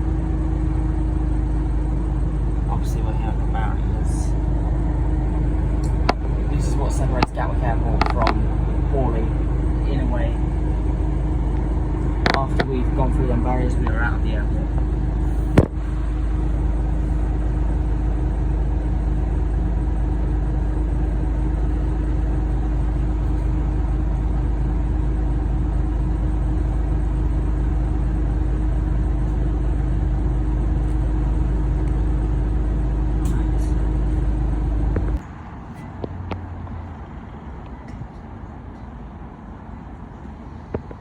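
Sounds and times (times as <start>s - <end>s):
bus engine and road rumble: 0.0s - 41.0s
constant hum: 0.0s - 41.0s.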